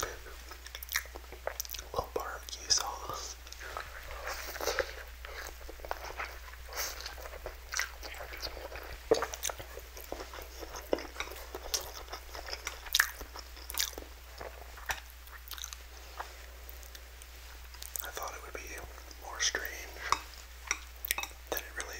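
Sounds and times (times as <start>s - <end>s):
wet chewing of noodles: 0.0s - 19.2s, 19.9s - 21.9s.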